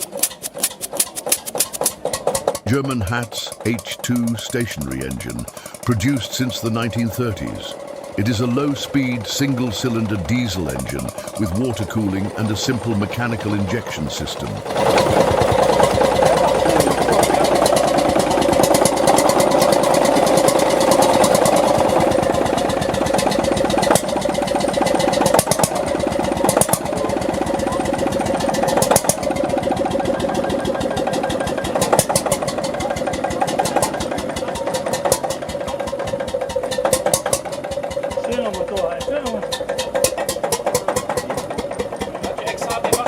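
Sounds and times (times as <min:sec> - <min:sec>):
diesel engine running: 0:00.0 - 0:43.0
engine knocks: 0:00.0 - 0:43.0.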